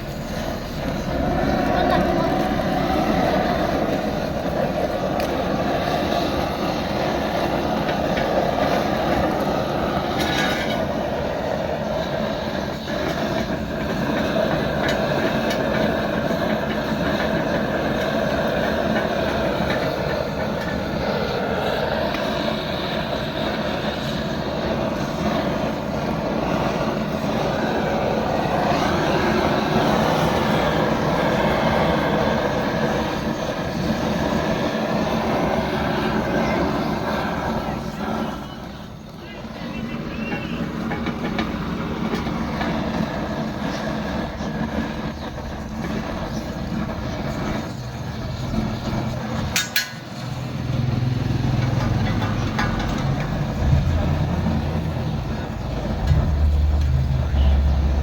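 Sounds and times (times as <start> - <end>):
machine running steadily: 0.0 - 58.0.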